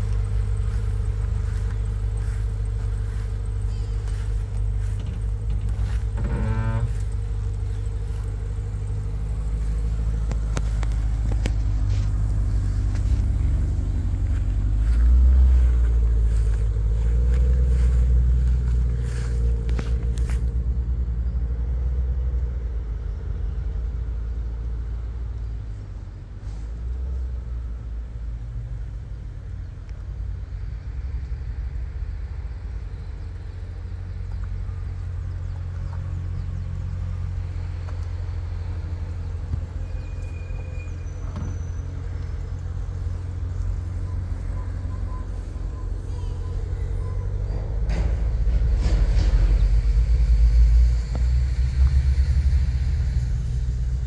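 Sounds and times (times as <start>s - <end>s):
car engine deep rumble: 0.0s - 54.0s.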